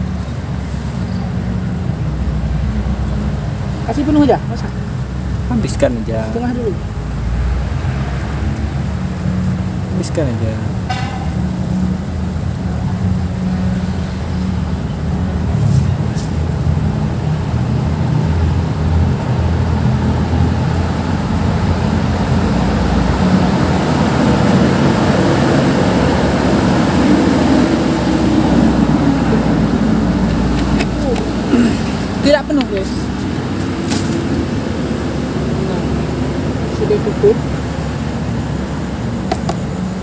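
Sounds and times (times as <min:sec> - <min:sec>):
engine droning hum: 0:00.0 - 0:40.0.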